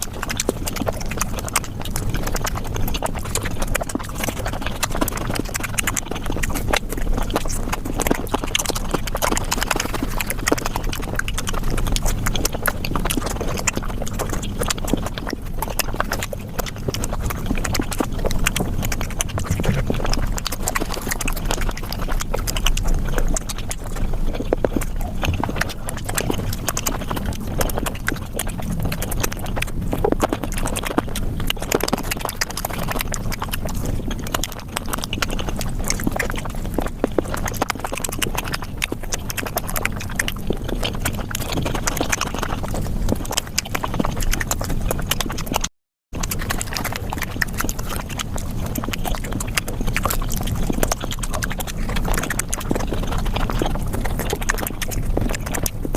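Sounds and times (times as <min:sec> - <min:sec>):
fast wet chewing: 0:00.0 - 0:55.9.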